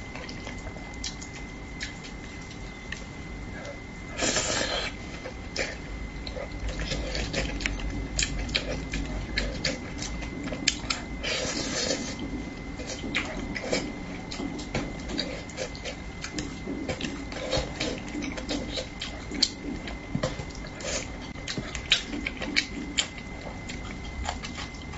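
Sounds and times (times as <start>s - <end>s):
wet chewing with mouth clicks: 0.0s - 24.9s.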